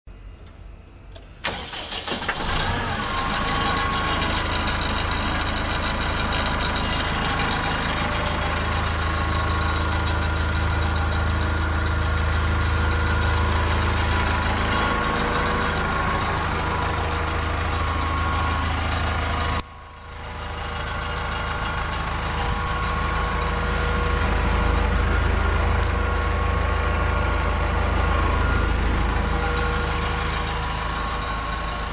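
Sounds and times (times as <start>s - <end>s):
wood chipper engine running: 1.3s - 31.9s.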